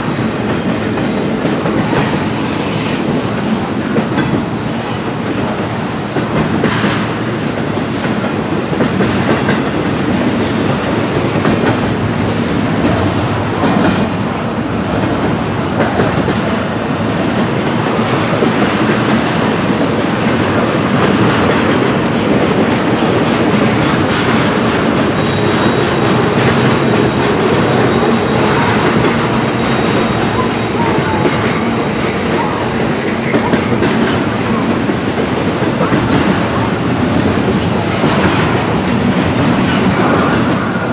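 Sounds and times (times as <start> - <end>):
clickety-clack over rail joints: 0.0 - 40.9
steel wheels on rail: 0.0 - 40.9.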